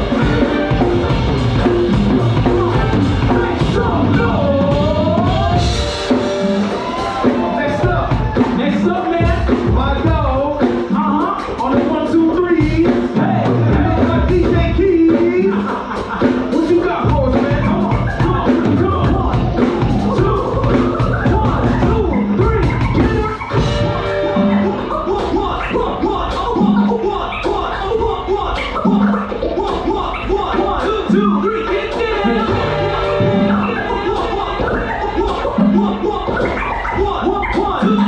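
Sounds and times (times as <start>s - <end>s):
drum kit beat: 0.0s - 38.0s.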